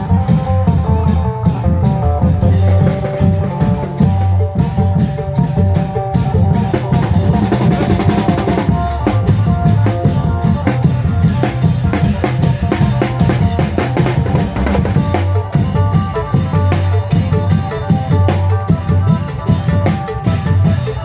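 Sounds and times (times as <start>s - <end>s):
long drums playing dance rhythm: 0.0s - 21.0s
sustained melody line: 0.0s - 21.0s.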